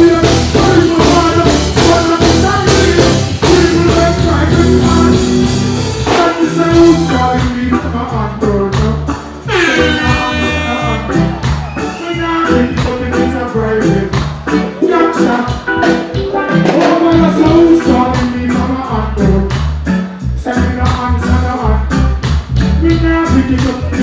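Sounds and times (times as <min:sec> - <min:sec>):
reggae music with singing: 0:00.0 - 0:24.0.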